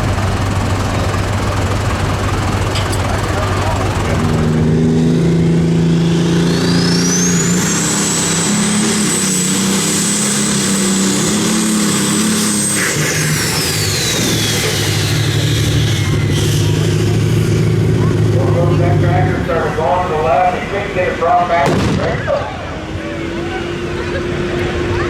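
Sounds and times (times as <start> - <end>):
engine running at high revs: 0.0 - 25.0.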